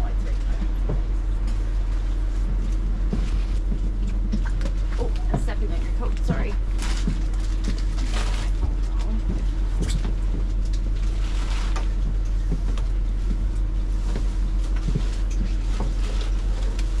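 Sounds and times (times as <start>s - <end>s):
bus engine humming: 0.0s - 17.0s.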